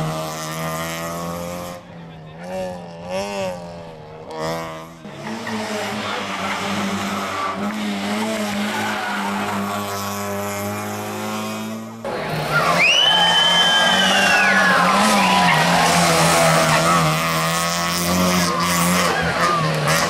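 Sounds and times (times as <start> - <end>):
car engine at full throttle: 0.0 - 20.0
rally car engine revving: 0.0 - 20.0.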